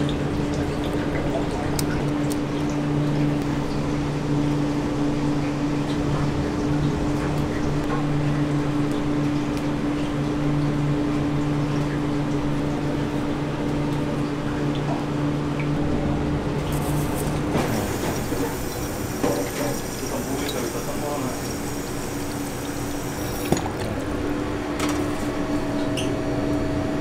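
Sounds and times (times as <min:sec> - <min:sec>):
kitchen machinery humming: 0:00.0 - 0:27.0.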